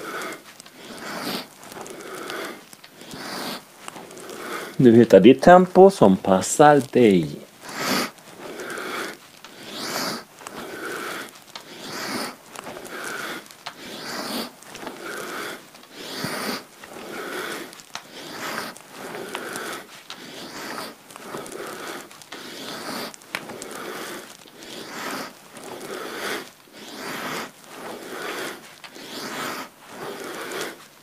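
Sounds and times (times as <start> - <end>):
man breathing forcefully: 0.0 - 4.8, 7.6 - 30.9.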